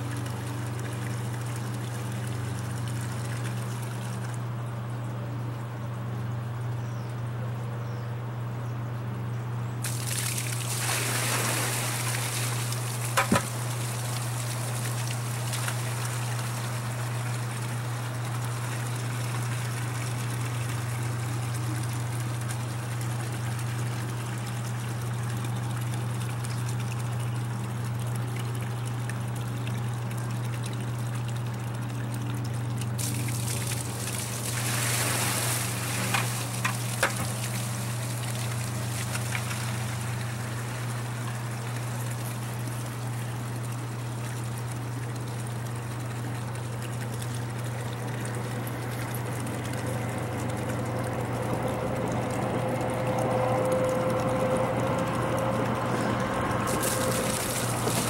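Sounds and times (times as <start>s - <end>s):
pump humming: 0.0s - 58.0s
water running into plastic bucket: 9.8s - 55.9s, 56.6s - 58.0s
rush of pouring water: 9.8s - 58.0s.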